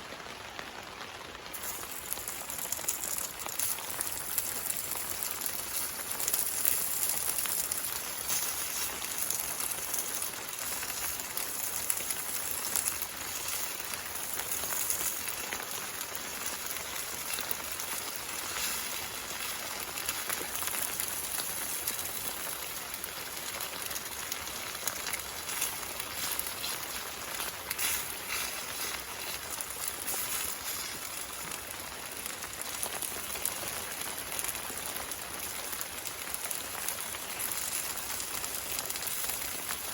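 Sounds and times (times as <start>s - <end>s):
rain on a tarp: 0.0s - 39.9s.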